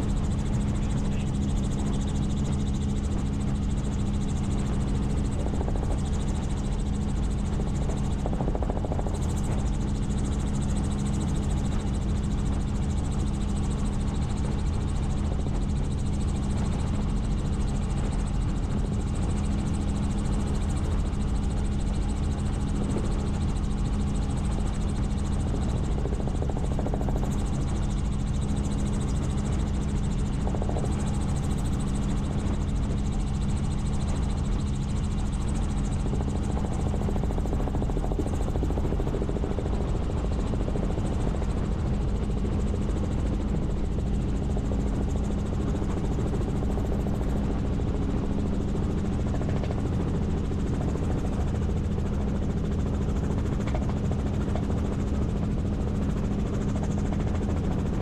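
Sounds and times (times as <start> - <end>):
helicopter flying: 0.0 - 58.0.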